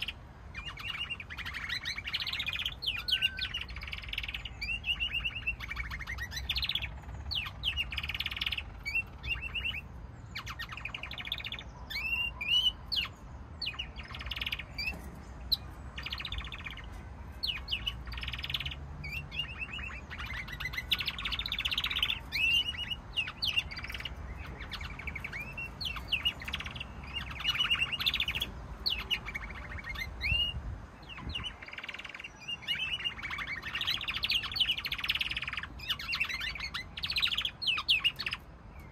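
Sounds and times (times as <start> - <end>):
canaries singing: 0.0 - 38.9.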